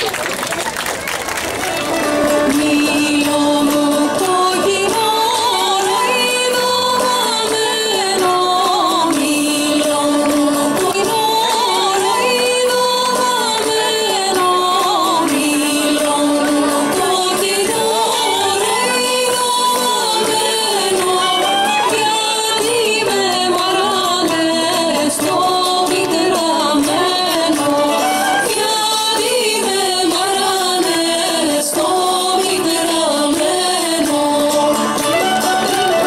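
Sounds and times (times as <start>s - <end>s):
song over a loudspeaker: 1.8s - 36.0s.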